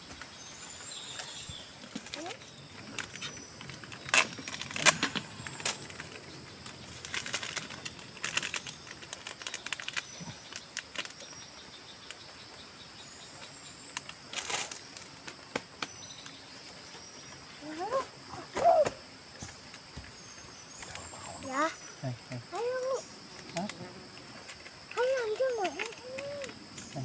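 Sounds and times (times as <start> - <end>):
forest insects droning: 0.0 - 27.0.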